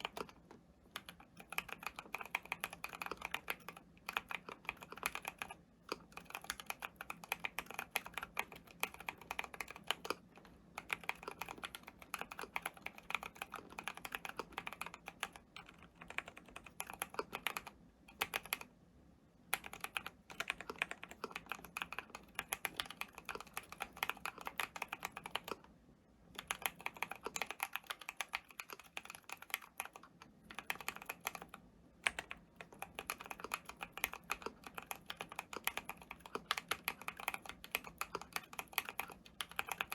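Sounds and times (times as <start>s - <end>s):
fast keyboard typing: 0.0s - 18.7s, 19.5s - 25.7s, 26.4s - 39.9s.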